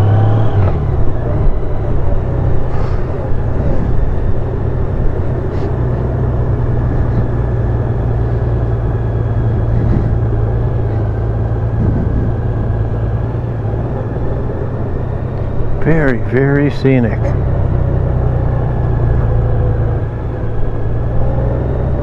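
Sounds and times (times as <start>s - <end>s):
motorcycle engine hum: 0.0s - 22.0s
road and wind noise: 0.0s - 22.0s.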